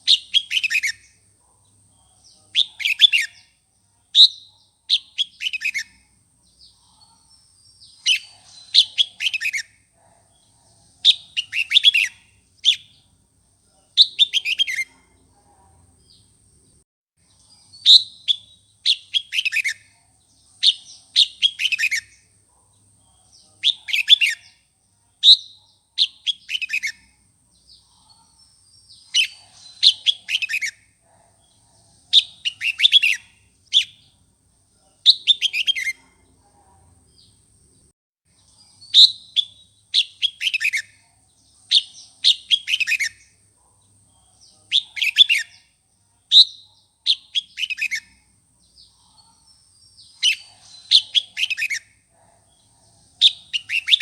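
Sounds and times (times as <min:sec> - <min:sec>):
bulbul chirping song: 0:00.0 - 0:15.0, 0:17.2 - 0:34.2, 0:34.9 - 0:36.2, 0:38.3 - 0:54.0.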